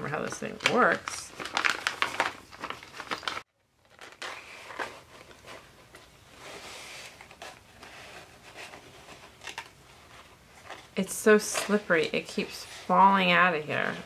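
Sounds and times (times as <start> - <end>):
paper rustling and crinkling: 0.2 - 13.1.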